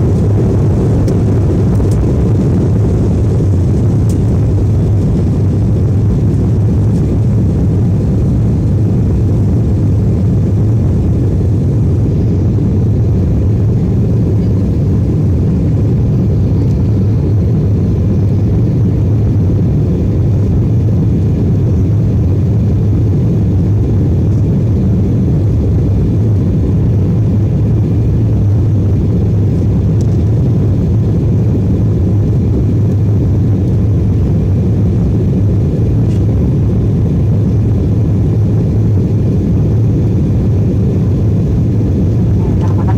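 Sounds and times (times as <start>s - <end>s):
airplane engines rumbling: 0.0s - 42.9s.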